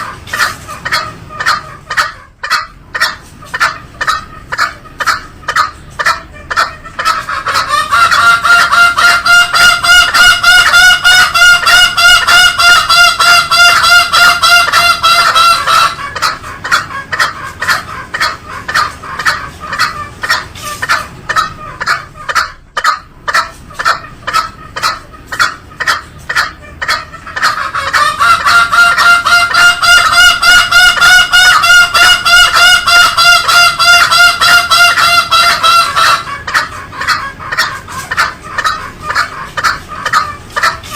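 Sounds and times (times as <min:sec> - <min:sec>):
junglefowl harsh pulsed calls: 0:00.0 - 0:40.9.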